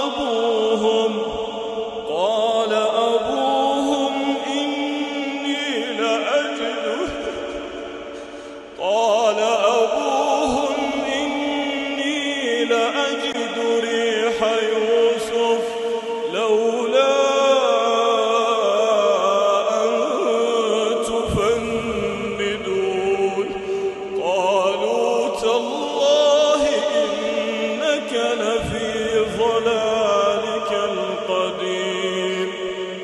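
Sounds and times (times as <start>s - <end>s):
man reciting melodically: 0.0s - 33.0s.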